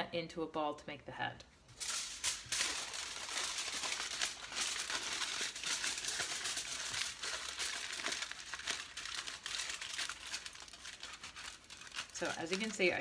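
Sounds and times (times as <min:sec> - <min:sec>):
aluminium foil crinkling: 0:01.7 - 0:13.0.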